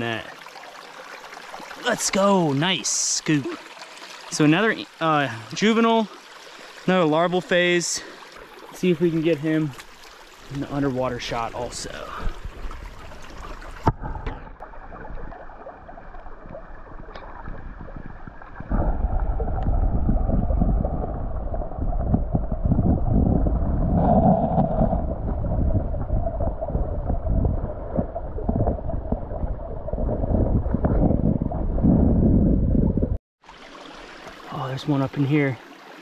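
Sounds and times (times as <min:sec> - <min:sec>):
muffled underwater stream gurgling: 0:00.0 - 0:36.0.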